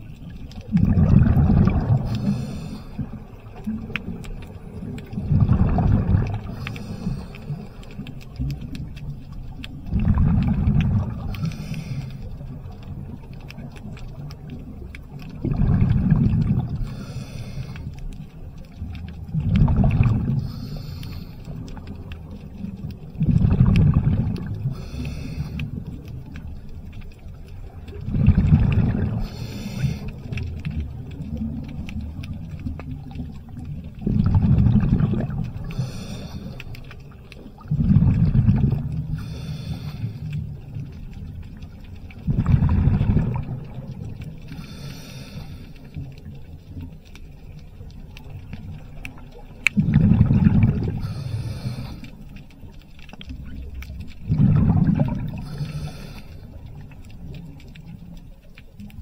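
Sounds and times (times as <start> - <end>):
exhaled bubbles gushing: 0.0 - 59.0.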